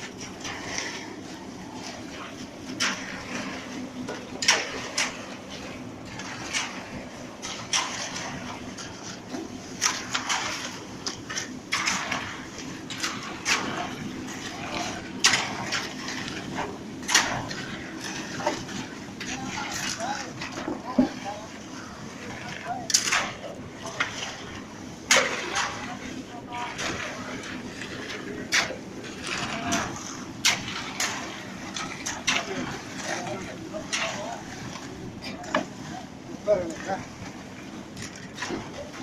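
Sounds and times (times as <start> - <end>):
concrete pump humming: 0.0 - 39.0.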